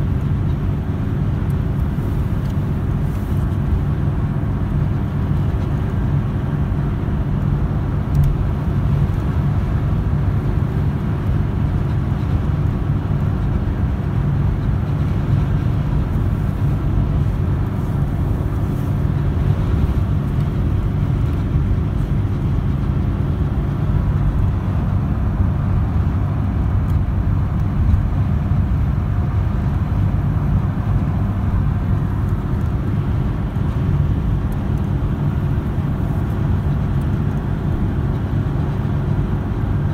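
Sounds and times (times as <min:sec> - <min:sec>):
car engine and road noise drone: 0:00.0 - 0:39.9.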